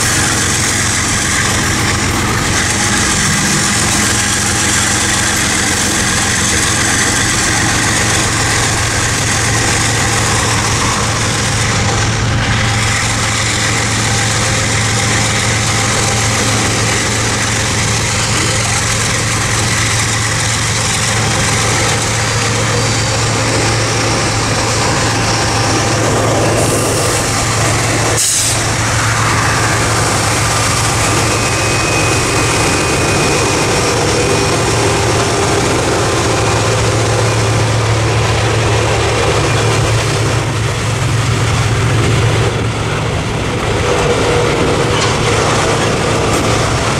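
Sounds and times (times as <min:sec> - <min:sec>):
car road and wind rumble: 0:00.0 - 0:46.9
diesel locomotives running: 0:00.0 - 0:46.9.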